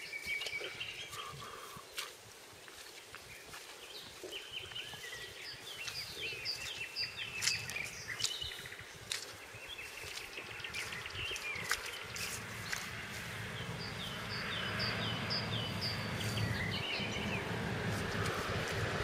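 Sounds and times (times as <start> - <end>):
outdoor background hush: 0.0 - 19.0
songbirds chirping: 0.0 - 19.0.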